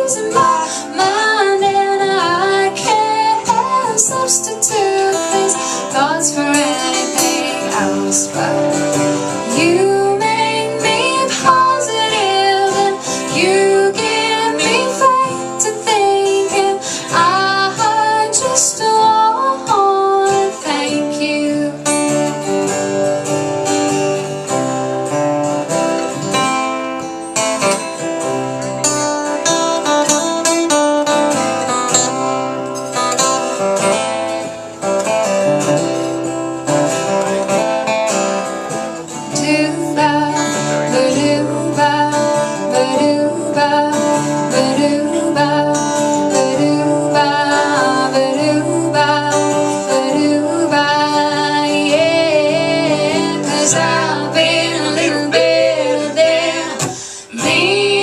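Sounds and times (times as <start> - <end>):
acoustic guitar strummed and picked: 0.0 - 58.0.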